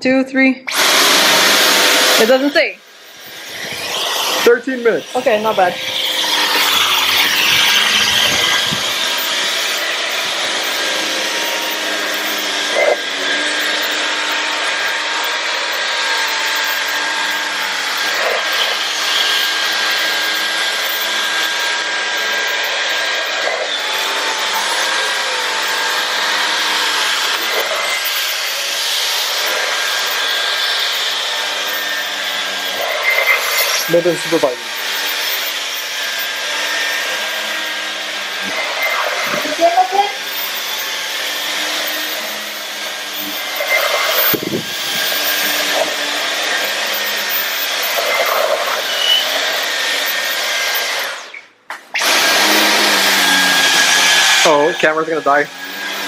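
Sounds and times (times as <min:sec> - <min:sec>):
vacuum cleaner motor whine: 0:00.7 - 0:51.4, 0:52.0 - 0:56.0.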